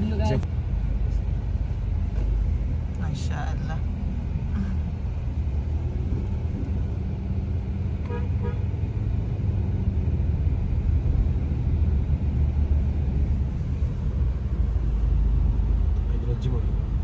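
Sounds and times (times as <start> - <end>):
car rumble on road: 0.0 - 17.0.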